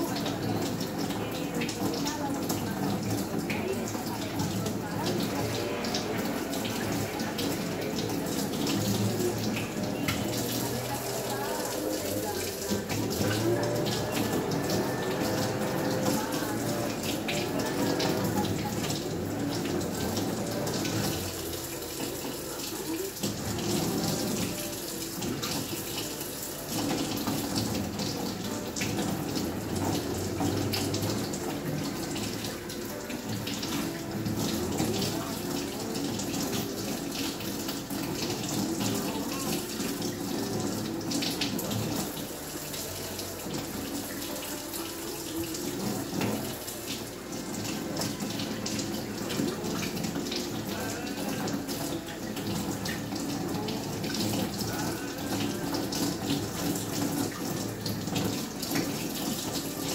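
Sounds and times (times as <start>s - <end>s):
kitchen faucet running: 0.0s - 59.9s.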